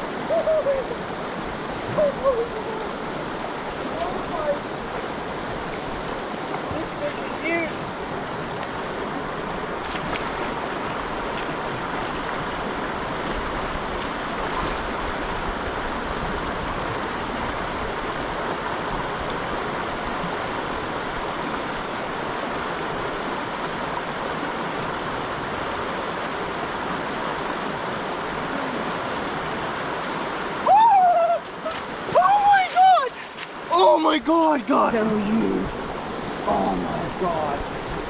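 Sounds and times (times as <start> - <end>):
creek water rushing: 0.0 - 38.0.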